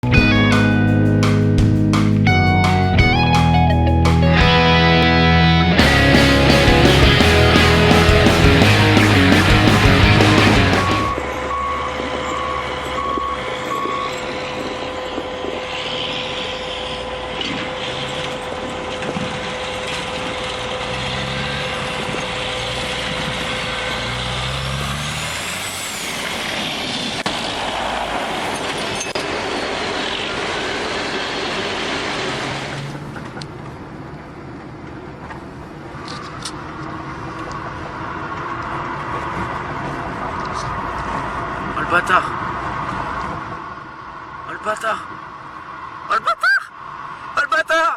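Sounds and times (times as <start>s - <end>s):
heavy trucks driving: 0.0s - 47.4s.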